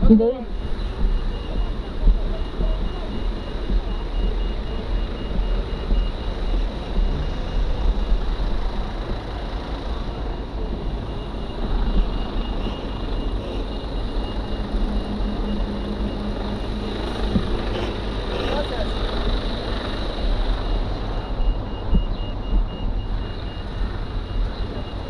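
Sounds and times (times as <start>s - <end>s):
lorry diesel engine: 0.0s - 25.0s
street traffic rumble: 0.0s - 25.0s.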